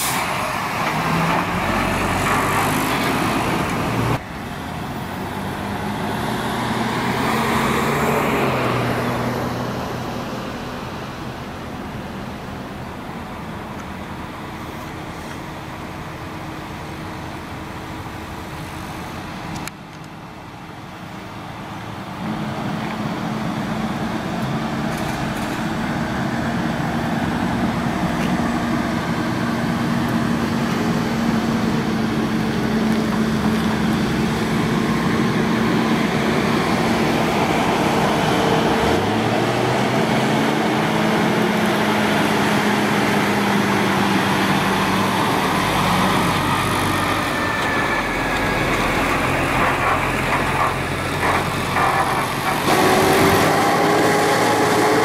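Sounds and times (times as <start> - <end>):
road traffic: 0.0 - 55.0
truck diesel engine approaching: 0.0 - 55.0.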